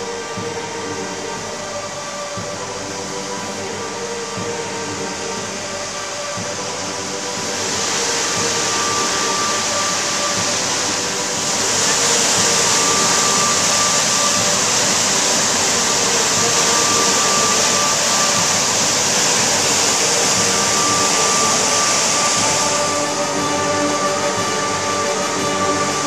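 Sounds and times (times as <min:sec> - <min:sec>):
soft sustained music notes: 0:00.0 - 0:26.0
water rushing over waterfall: 0:00.0 - 0:26.0.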